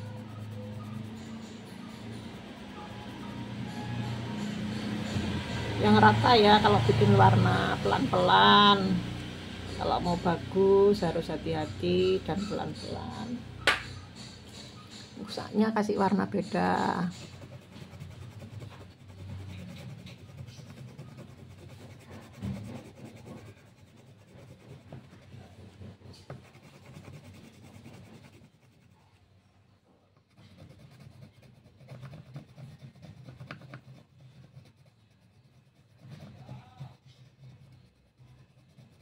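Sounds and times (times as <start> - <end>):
pencil scratching on paper: 0.0 - 29.3, 30.2 - 39.0.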